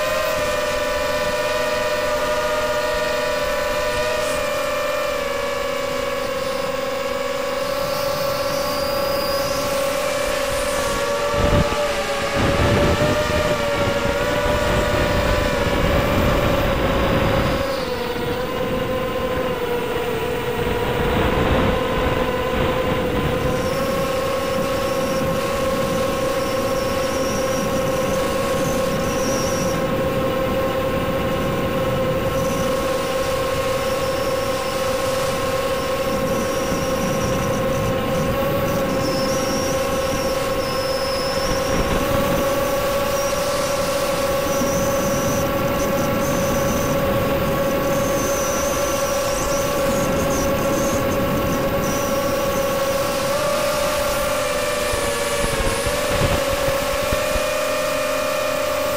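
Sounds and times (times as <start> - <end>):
quadcopter motors whining: 0.0 - 58.9
wind buffeting microphone: 0.0 - 58.9.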